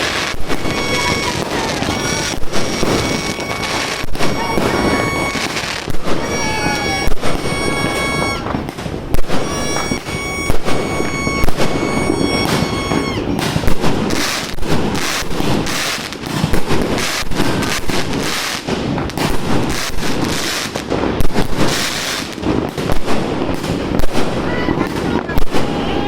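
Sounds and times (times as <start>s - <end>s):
fireworks bangs: 0.0s - 26.0s
fireworks crackling rumble: 0.0s - 26.0s
high whistling fireworks: 0.0s - 26.0s.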